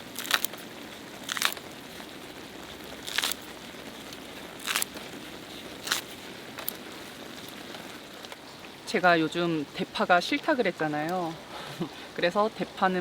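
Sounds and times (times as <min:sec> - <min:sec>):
faint steady sizzle: 0:00.0 - 0:13.0.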